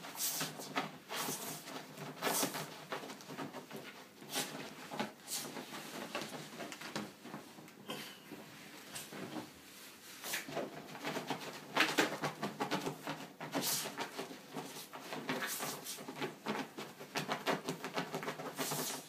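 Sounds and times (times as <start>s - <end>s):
dog rubbing on fabric sofa: 0.0s - 7.6s, 8.9s - 19.0s.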